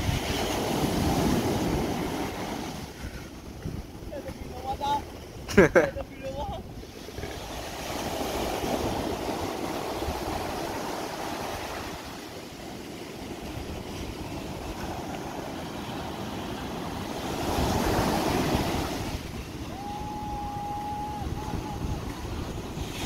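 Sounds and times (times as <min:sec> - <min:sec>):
waves washing up a shore: 0:00.0 - 0:23.0.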